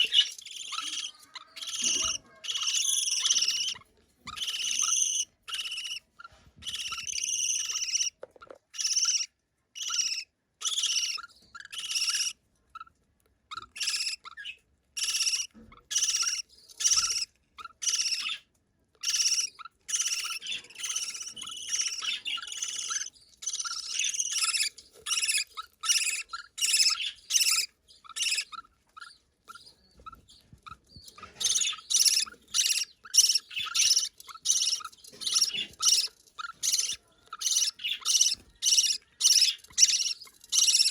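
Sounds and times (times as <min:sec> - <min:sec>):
baby budgerigar cheeping: 0:00.0 - 0:40.9.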